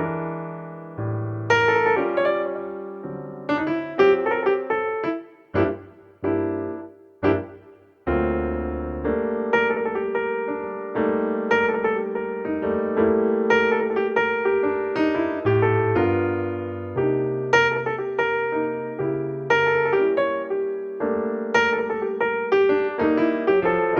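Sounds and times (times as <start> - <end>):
piano music: 0.0 - 23.9.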